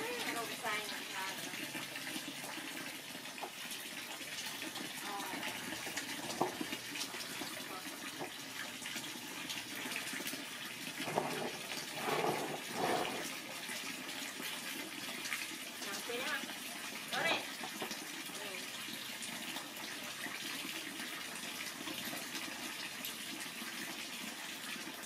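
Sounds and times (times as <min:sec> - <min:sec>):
water running into plastic tub: 0:00.0 - 0:25.0.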